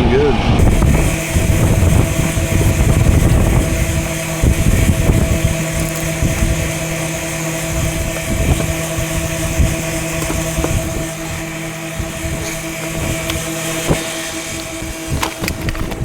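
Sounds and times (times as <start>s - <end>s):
hvac unit fan hum: 0.0s - 16.0s
wind buffeting microphone: 0.0s - 16.0s.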